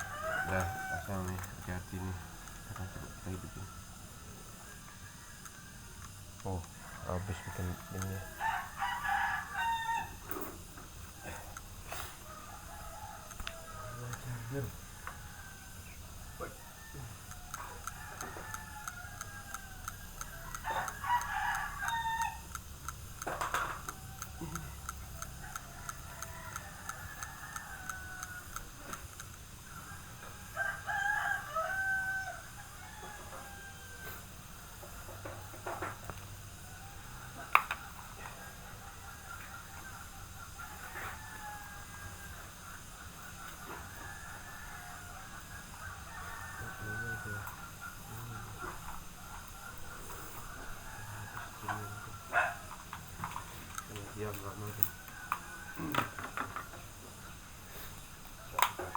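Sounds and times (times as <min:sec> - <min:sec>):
chicken calls: 0:00.0 - 0:58.9
rooster crowing: 0:00.0 - 0:58.9.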